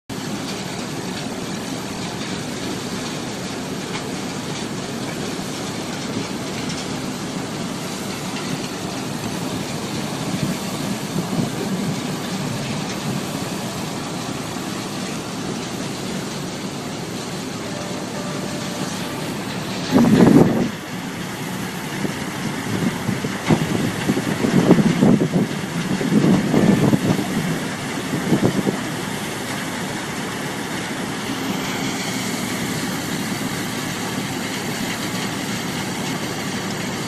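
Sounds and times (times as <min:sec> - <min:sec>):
machinery mechanical din: 0:00.1 - 0:37.0.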